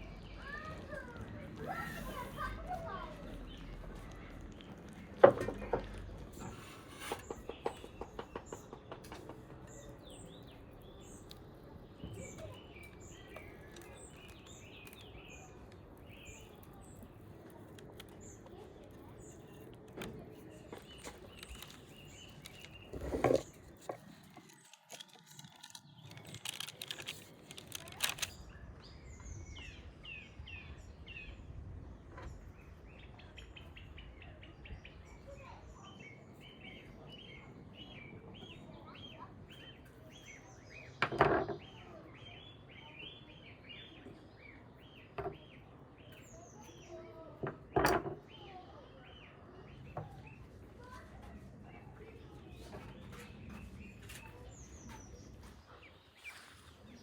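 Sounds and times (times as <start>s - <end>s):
faint outdoor background: 0.0s - 57.0s
small birds chirping: 0.0s - 57.0s.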